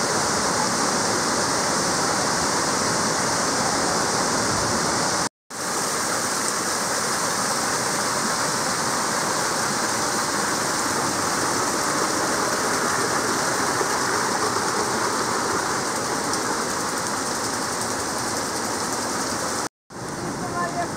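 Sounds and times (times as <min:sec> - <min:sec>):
small waterfall splashing: 0:00.0 - 0:20.9.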